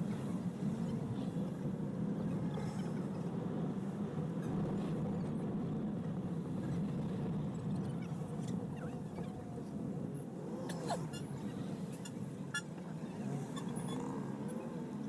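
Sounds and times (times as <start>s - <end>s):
engine hum inside van: 0.0s - 15.0s
road noise: 0.0s - 15.0s.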